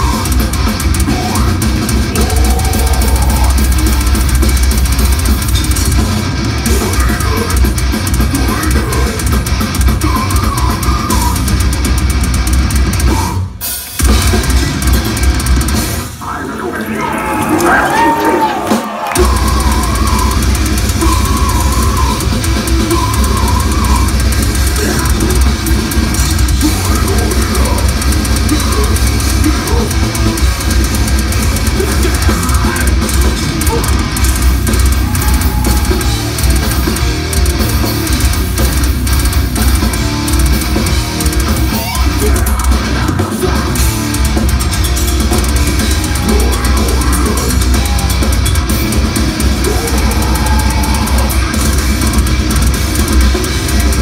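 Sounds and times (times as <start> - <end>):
death metal band playing live: 0.0 - 54.0.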